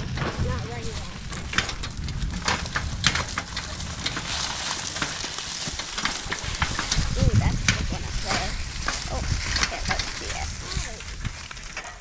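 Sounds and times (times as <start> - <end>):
low rumble: 0.0 - 11.8
footsteps crunching through dry weeds: 0.0 - 12.0.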